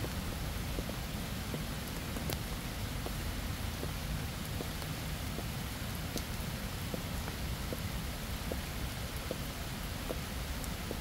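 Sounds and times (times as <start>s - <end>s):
raindrops ticking: 0.0s - 11.0s
steady rain hiss: 0.0s - 11.0s.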